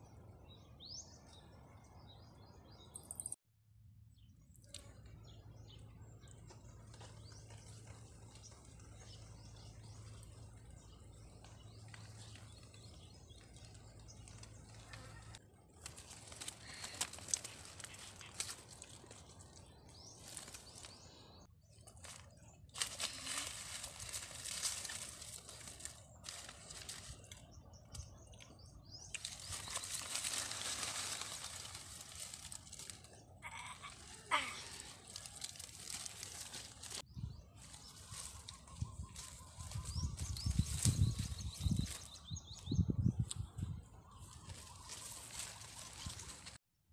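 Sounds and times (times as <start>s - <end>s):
small birds chirping: 4.1s - 46.6s
leaves rustling and crackling: 6.8s - 42.6s, 43.2s - 46.6s.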